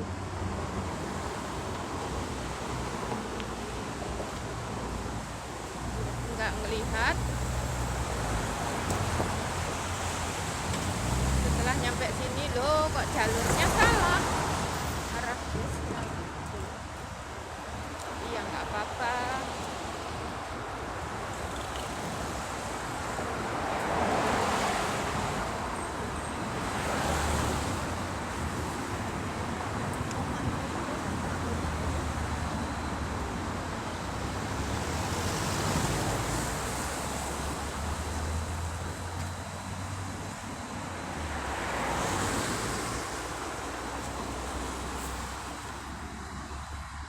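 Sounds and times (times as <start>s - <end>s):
traffic rumble: 0.0s - 47.0s
vehicles passing by: 0.0s - 47.0s.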